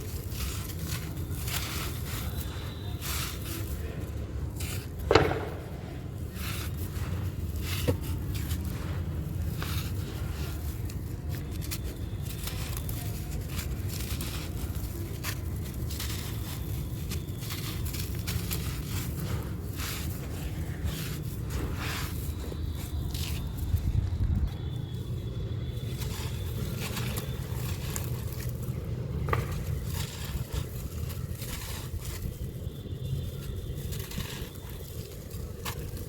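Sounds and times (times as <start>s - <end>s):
crispy blocks crumbling: 0.0s - 36.0s.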